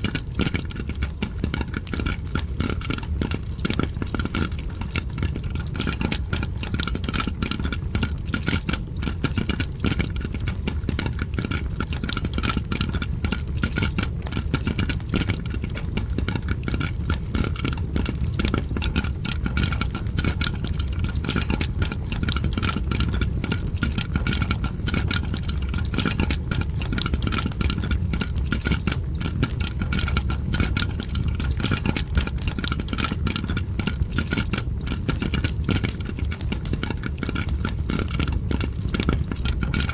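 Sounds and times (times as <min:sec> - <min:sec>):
popcorn popping: 0:00.0 - 0:39.9
fire crackling: 0:00.1 - 0:39.9.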